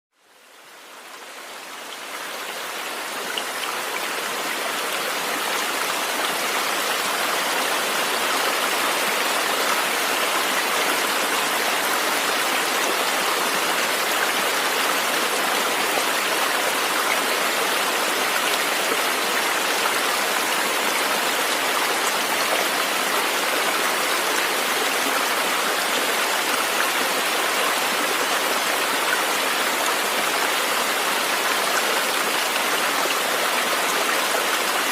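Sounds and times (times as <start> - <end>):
river water rushing: 0.3 - 34.9.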